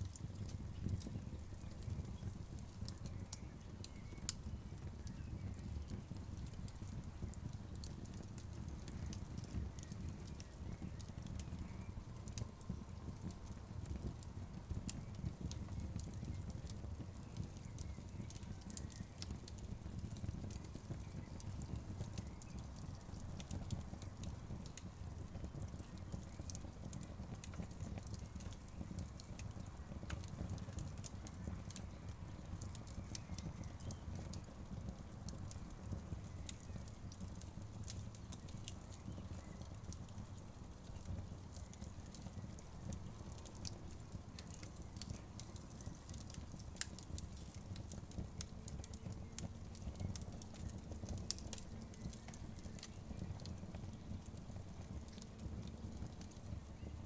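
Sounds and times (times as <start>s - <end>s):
fire rumbling: 0.0s - 57.0s
logs crackling and popping: 0.0s - 57.0s.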